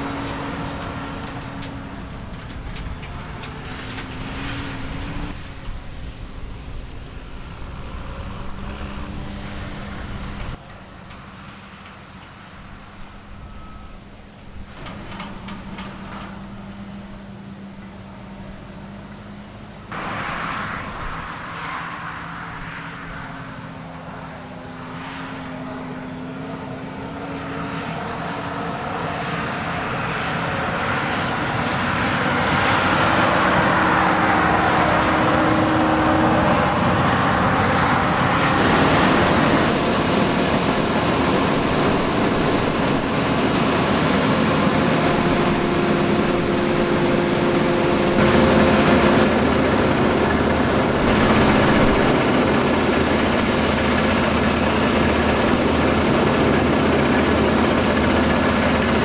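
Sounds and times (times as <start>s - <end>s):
heavy diesel engine running: 0.0s - 11.0s, 14.5s - 21.2s, 25.9s - 59.0s.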